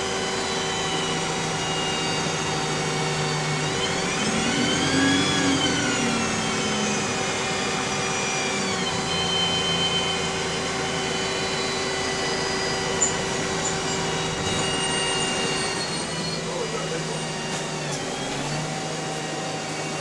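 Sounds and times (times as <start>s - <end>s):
bus gearbox whine: 0.0s - 19.0s
bus engine running: 0.0s - 20.0s.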